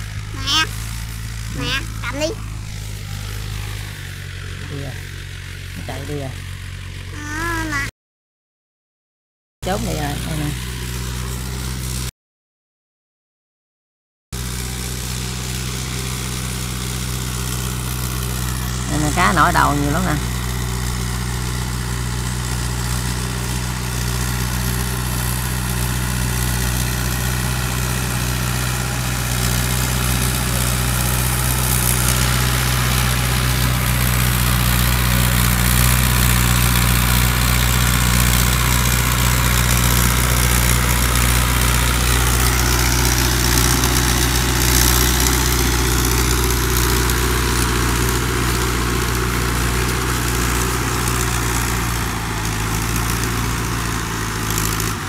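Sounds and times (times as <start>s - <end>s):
tractor engine running: 0.0s - 7.8s, 9.6s - 12.1s, 14.4s - 55.0s.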